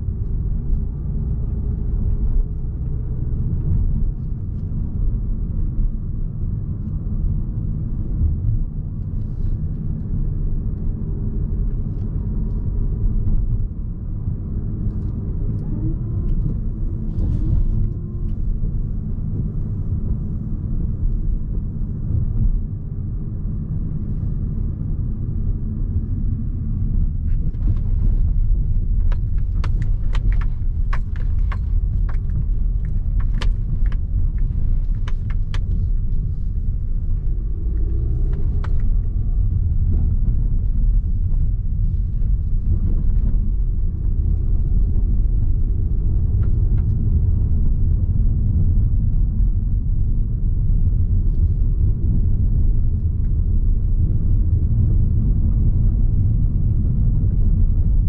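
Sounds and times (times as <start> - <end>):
car rumbling over rough ground: 0.0 - 58.0.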